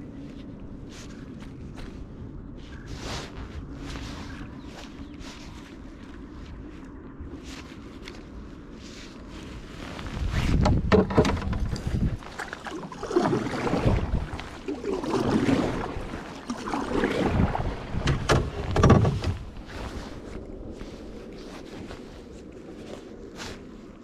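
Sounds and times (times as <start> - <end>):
paddle strokes in water: 0.0 - 24.0
wind on microphone: 0.0 - 24.0.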